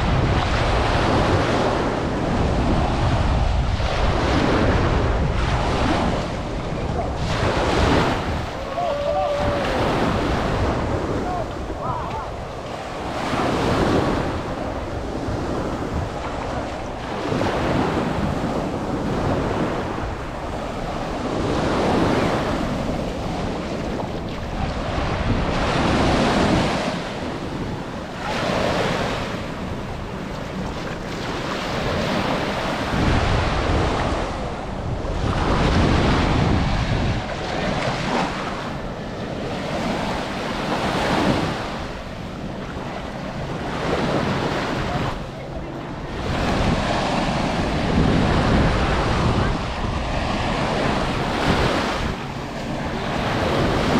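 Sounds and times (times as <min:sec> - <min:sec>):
ocean surf breaking on beach: 0:00.0 - 0:53.9
wind buffeting microphone: 0:00.0 - 0:53.9.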